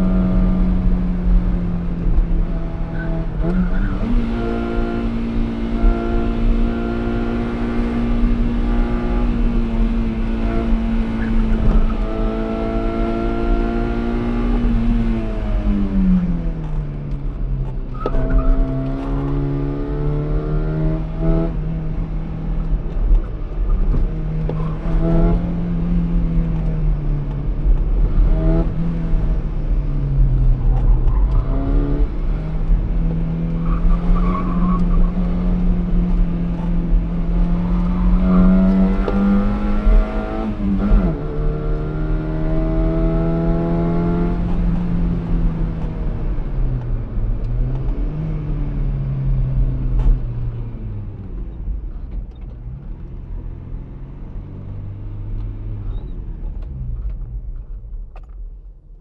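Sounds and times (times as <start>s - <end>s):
car engine revving through gears: 0.0s - 58.4s.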